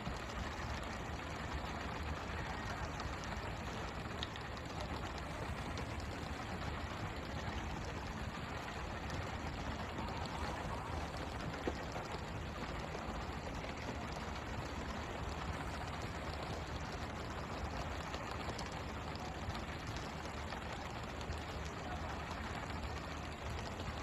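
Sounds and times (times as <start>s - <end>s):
boat engine hum: 0.0s - 24.0s.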